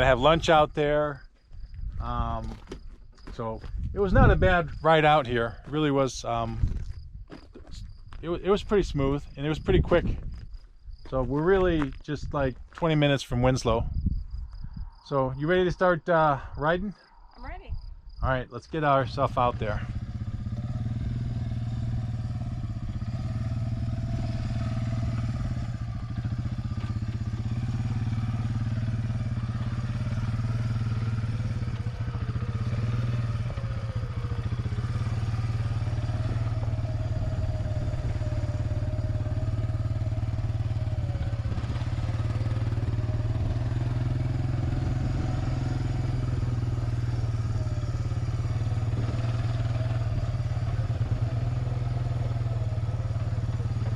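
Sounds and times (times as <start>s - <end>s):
atv engine running: 0.0s - 12.7s, 17.4s - 17.7s, 18.3s - 53.9s.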